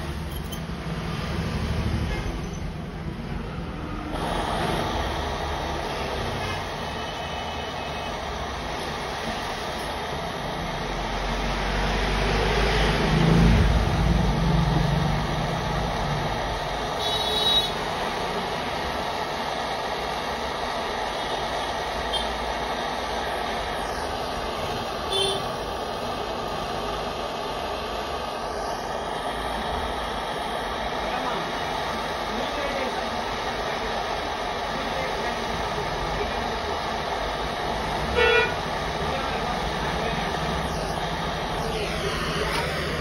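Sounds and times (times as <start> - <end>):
gas torch hissing: 0.0 - 43.0.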